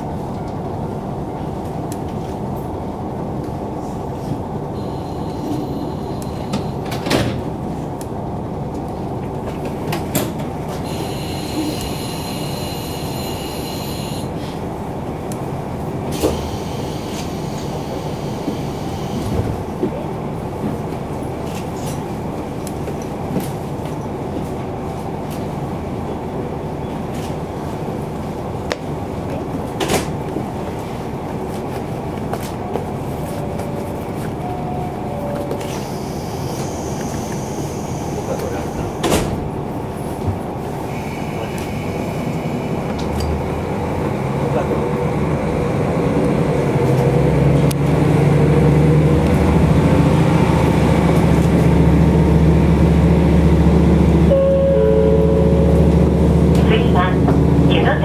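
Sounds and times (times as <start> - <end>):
train engine and wheels rumbling: 0.0 - 58.0.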